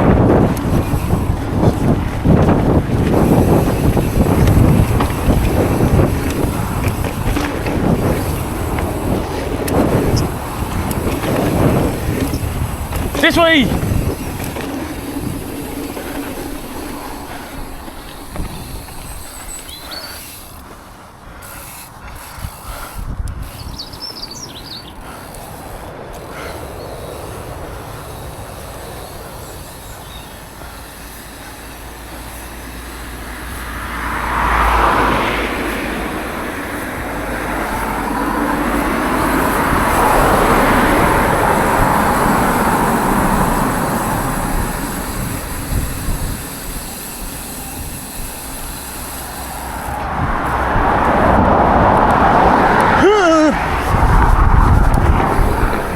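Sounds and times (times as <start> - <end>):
bike tyre and drivetrain rolling: 0.0 - 55.9
wind buffeting microphone: 0.0 - 55.9.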